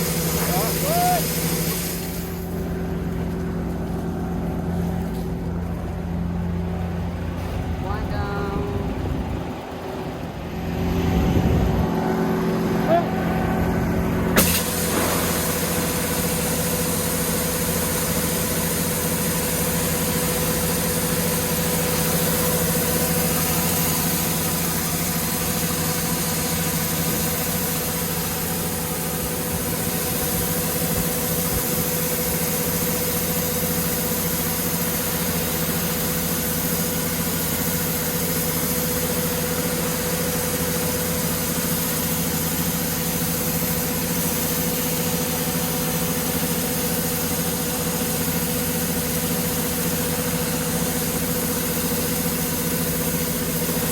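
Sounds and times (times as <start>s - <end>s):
combine harvester engine humming: 0.0s - 53.9s.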